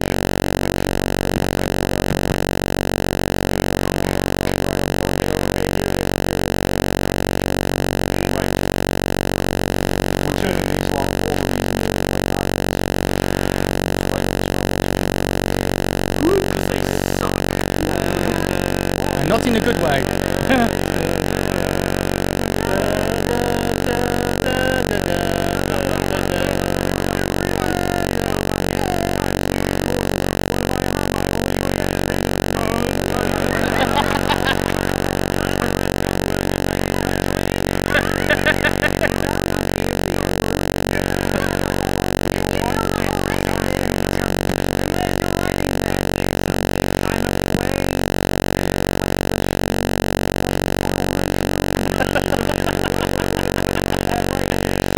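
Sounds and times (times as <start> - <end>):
loud buzzing hum: 0.0 - 54.9
faint voices: 9.8 - 49.4, 50.4 - 54.9.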